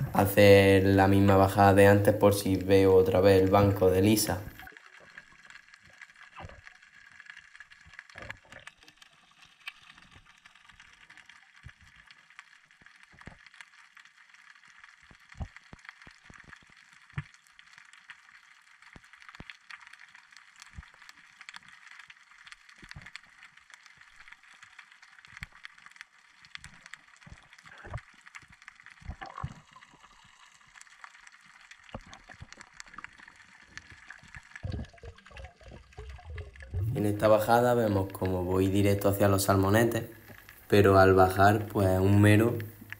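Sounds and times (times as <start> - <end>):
underwater clicks and crackles: 0.0 - 42.9.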